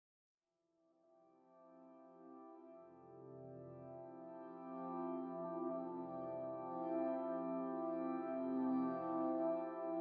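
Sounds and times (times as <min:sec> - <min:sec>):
ambient music with held chords: 0:01.3 - 0:10.0.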